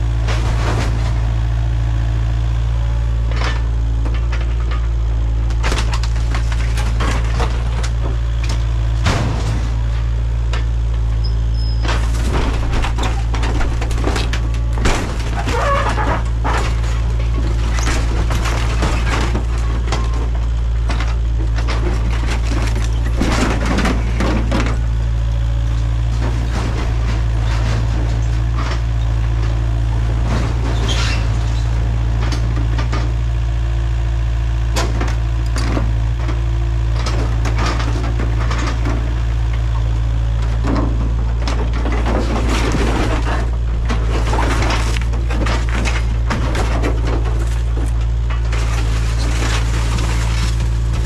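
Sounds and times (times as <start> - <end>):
excavator diesel engine running: 0.0 - 51.0
metal and wood cracking and crunching: 0.0 - 51.0.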